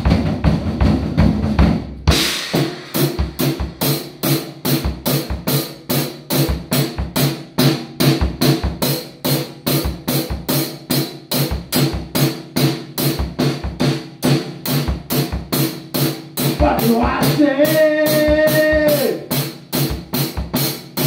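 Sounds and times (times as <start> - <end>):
drum kit steady beat: 0.0 - 21.0.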